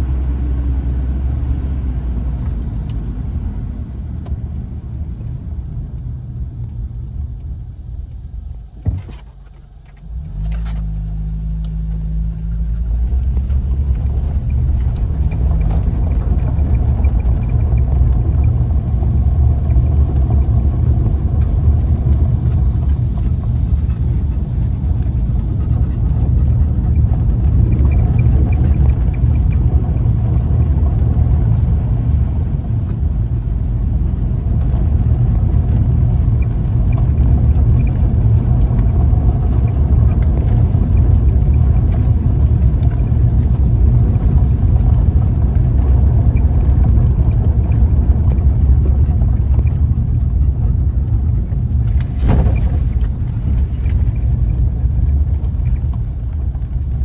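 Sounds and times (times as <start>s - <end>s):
car driving rumble from inside: 0.0s - 57.0s.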